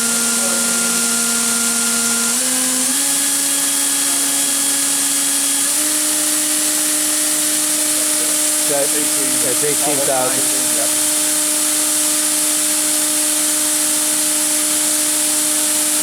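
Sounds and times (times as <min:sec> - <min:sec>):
machine spindle whine: 0:00.0 - 0:16.0.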